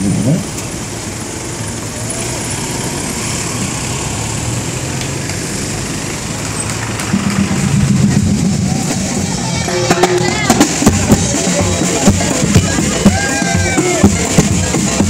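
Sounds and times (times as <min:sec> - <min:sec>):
car engine running: 0:00.0 - 0:15.0
street noise hiss: 0:00.0 - 0:15.0.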